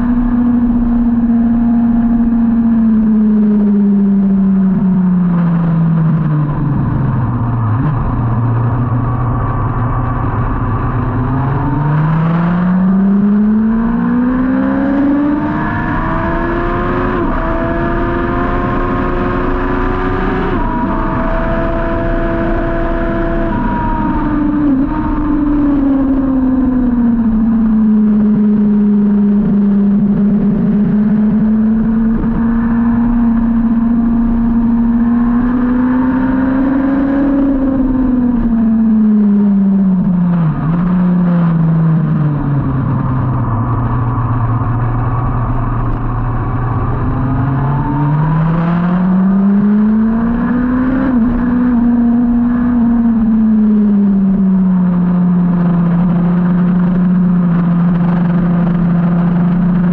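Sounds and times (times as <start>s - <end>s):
motorcycle engine at high revs: 0.0s - 59.9s
wind rush over microphone: 4.6s - 59.9s.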